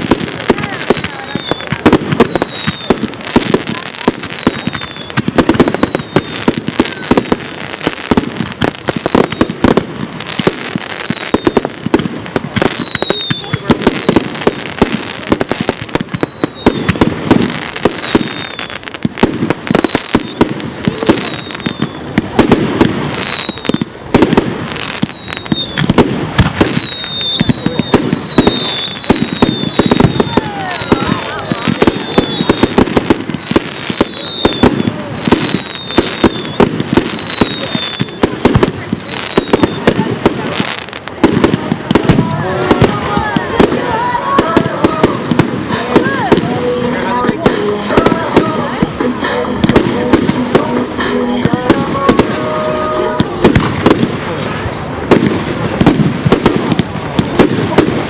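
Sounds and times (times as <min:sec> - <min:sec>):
fireworks bangs and crackles: 0:00.0 - 0:58.0
fireworks whistles gliding down: 0:00.0 - 0:58.0.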